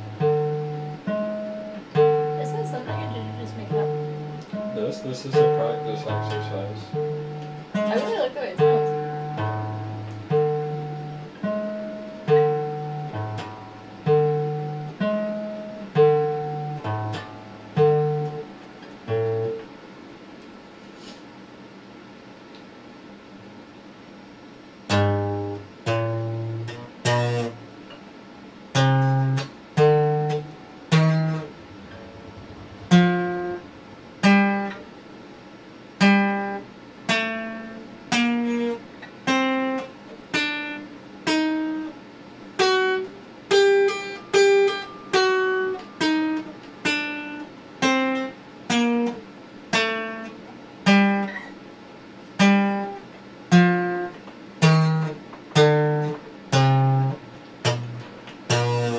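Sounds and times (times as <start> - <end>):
acoustic guitar picked slowly: 0.0 - 21.6, 24.3 - 58.9.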